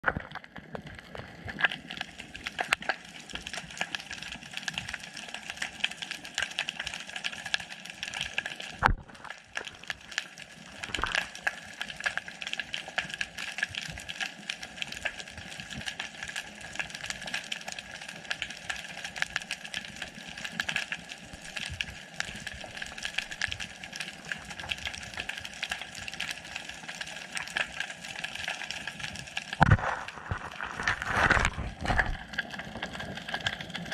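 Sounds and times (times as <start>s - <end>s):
underwater crackle of clicks: 0.0s - 33.9s.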